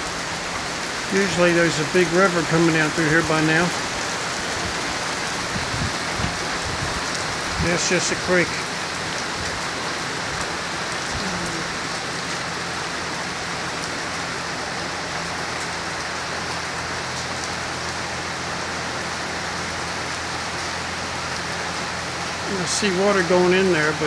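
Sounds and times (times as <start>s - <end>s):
rain on pavement: 0.0s - 24.0s.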